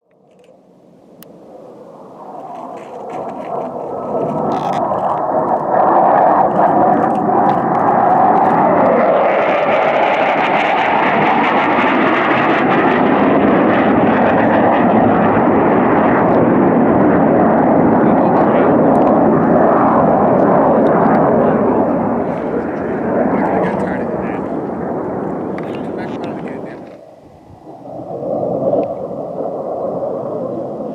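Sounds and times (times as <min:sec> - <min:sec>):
jet passing: 0:00.5 - 0:30.9.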